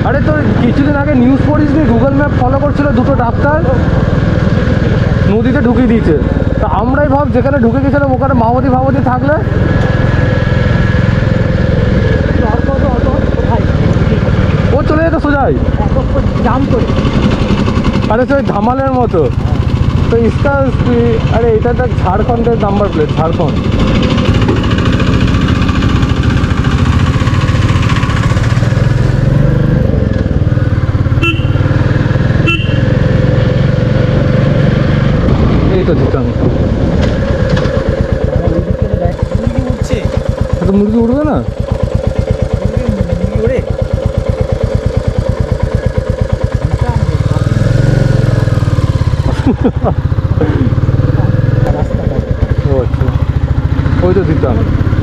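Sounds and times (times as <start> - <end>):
motorcycle engine thumping: 0.0 - 55.0.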